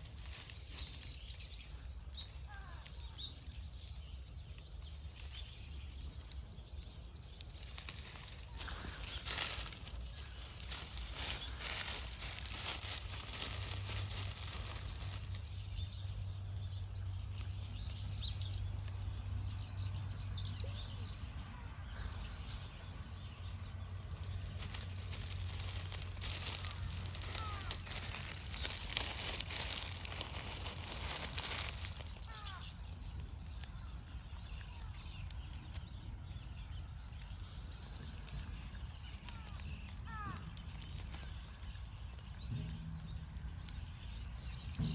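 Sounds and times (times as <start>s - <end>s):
wind and rustling: 0.0s - 44.9s.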